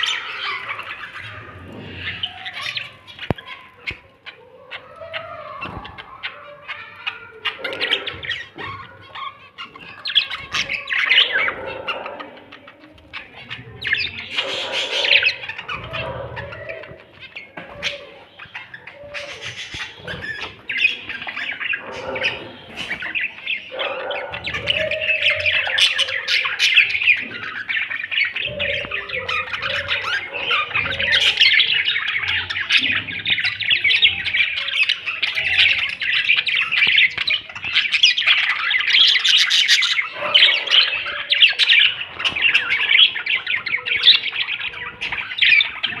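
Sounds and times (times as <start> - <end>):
budgerigars chattering and chirping: 0.0 - 46.0.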